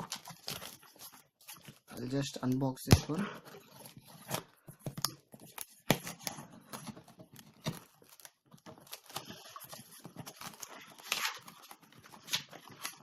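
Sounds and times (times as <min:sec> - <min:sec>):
packaging snapping and ripping: 0:00.0 - 0:03.2, 0:03.8 - 0:13.0.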